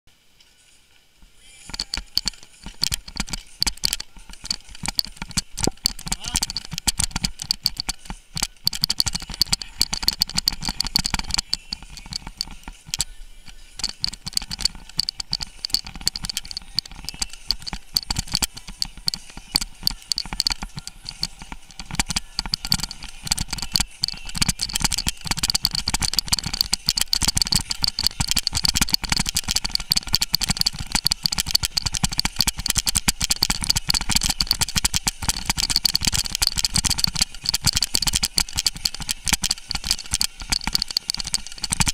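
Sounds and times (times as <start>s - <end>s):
bike rattling over gravel: 1.4s - 41.9s.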